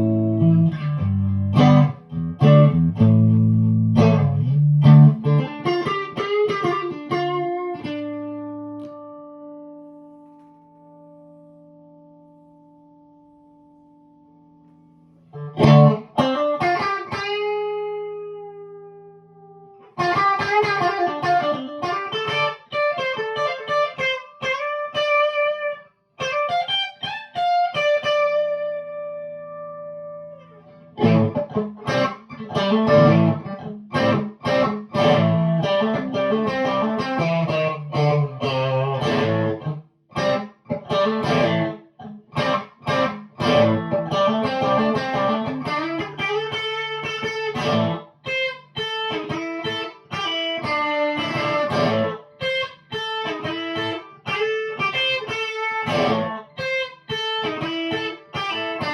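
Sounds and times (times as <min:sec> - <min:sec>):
electric guitar through amplifier: 0:00.0 - 0:58.9.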